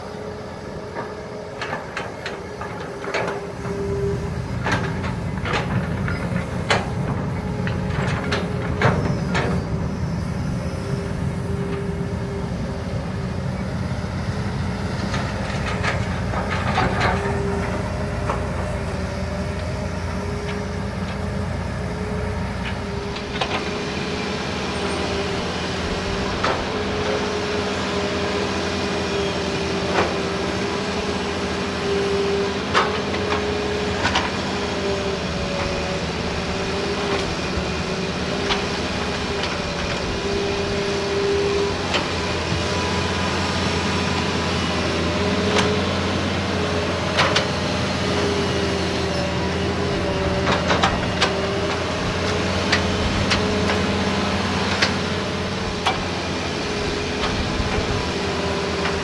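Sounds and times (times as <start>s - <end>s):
excavator diesel engines under load: 0.0s - 59.0s
hydraulic whine: 0.0s - 59.0s.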